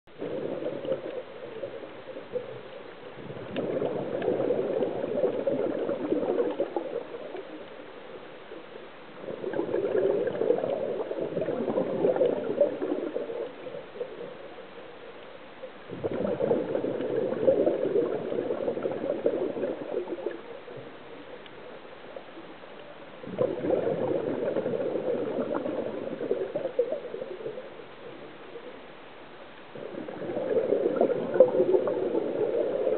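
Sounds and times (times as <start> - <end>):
underwater exhaust bubbles: 0.1 - 32.9.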